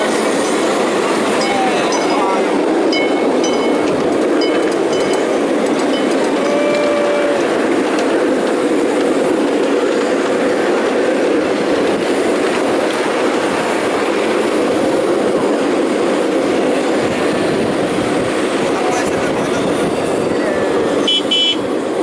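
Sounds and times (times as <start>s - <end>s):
train wheels rolling on track: 0.0s - 22.0s.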